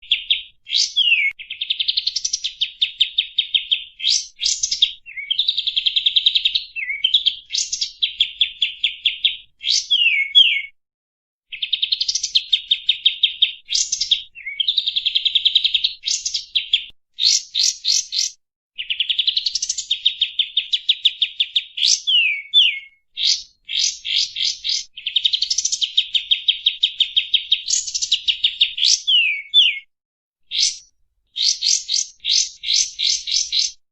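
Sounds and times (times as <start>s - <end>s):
bird song with buzzy trill: 0.0s - 10.8s, 11.5s - 29.9s, 30.5s - 33.8s.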